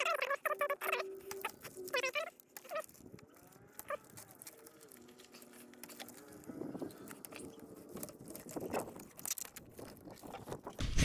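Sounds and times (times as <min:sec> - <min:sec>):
plastic connectors clicking: 0:00.0 - 0:10.8.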